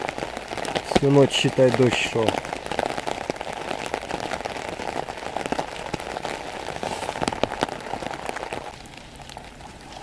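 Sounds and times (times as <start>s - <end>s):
heavy rain on tent fabric: 0.0s - 10.0s.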